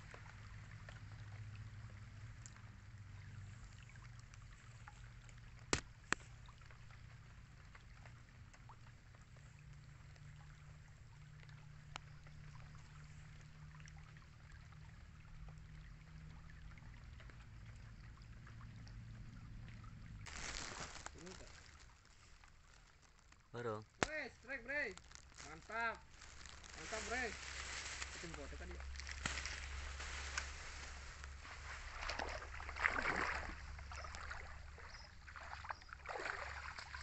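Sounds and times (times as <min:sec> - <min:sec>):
flowing water: 0:00.0 - 0:37.0
light drizzle: 0:00.0 - 0:37.0
low steady hum: 0:00.0 - 0:37.0.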